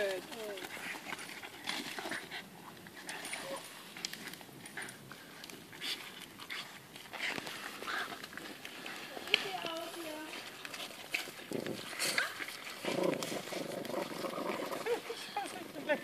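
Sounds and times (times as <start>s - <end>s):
paws scuffing on gravel: 0.0s - 14.4s
puppies panting and snuffling: 0.0s - 16.0s.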